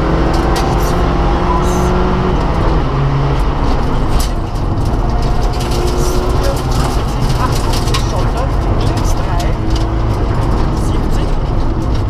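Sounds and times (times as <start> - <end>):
rally car engine running hard: 0.0 - 12.0
road noise: 0.0 - 12.0.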